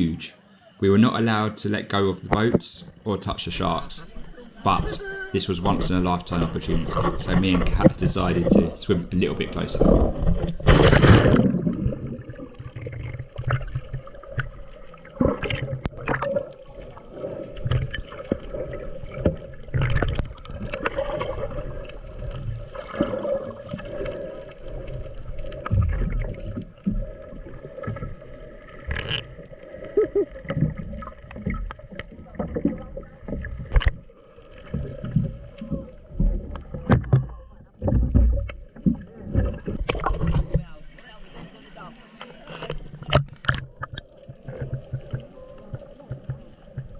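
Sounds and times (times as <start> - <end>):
water sloshing and gurgling: 0.0 - 46.9.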